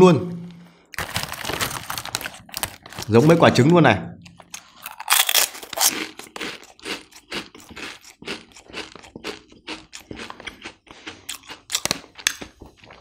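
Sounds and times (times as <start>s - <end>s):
snack balls crunching: 0.9s - 3.5s, 4.2s - 13.0s.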